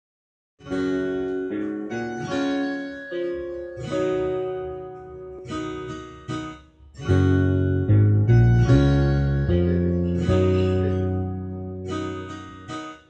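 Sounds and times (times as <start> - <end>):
acoustic guitar chords: 0.6 - 13.0
keyboard: 0.6 - 13.0.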